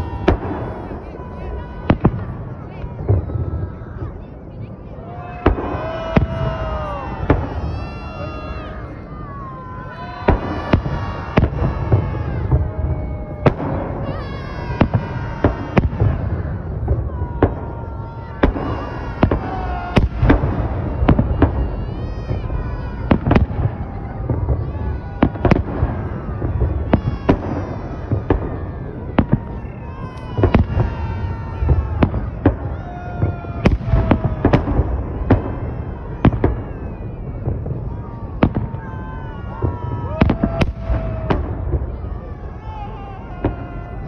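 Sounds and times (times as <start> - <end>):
fireworks bangs: 0.0 - 44.0.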